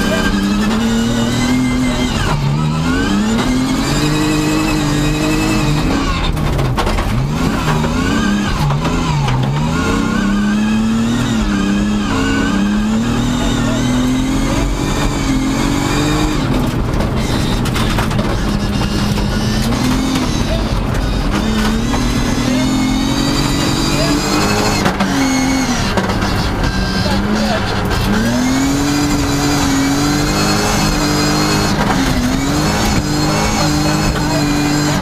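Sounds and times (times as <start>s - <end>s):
rally car engine at high revs: 0.0s - 35.0s.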